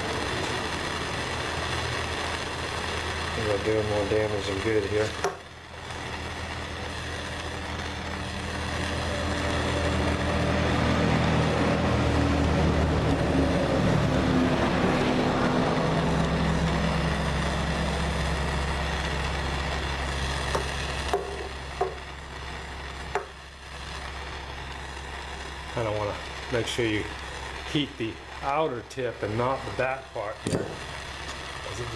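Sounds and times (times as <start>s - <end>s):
heat gun fan humming: 0.0s - 31.9s.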